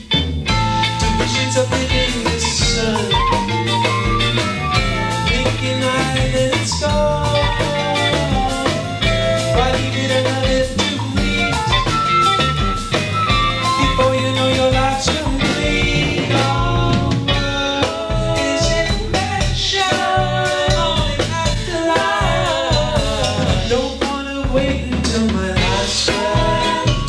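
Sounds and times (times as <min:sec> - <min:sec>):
live band playing: 0:00.0 - 0:27.0.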